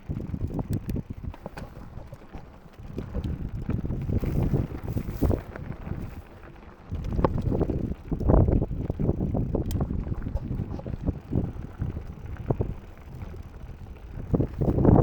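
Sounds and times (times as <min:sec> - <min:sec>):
mountain bike rattling over rocks: 0:00.0 - 0:15.0
wind buffeting microphone: 0:00.0 - 0:15.0.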